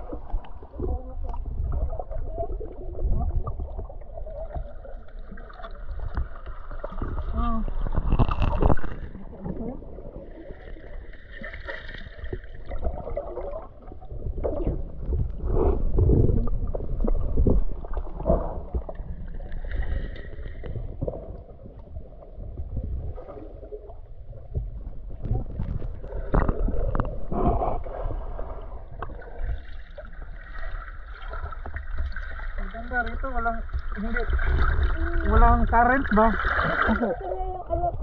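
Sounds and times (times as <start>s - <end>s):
water sloshing and splashing: 0.0s - 38.0s.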